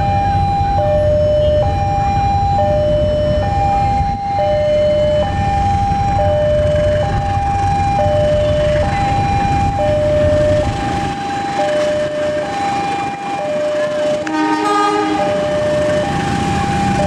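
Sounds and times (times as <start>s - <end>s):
diesel locomotive rumble: 0.0s - 17.0s
two-tone level crossing alarm: 0.0s - 17.0s.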